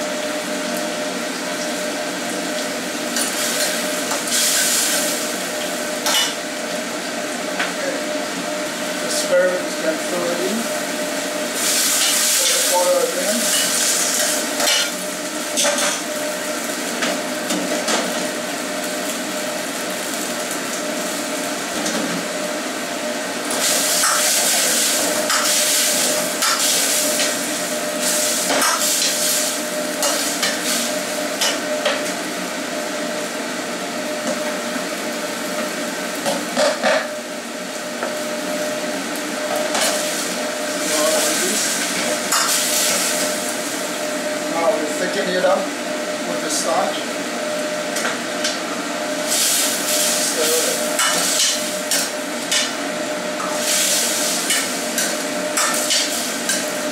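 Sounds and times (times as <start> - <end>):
sauce sizzling in a wok: 0.0 - 56.9.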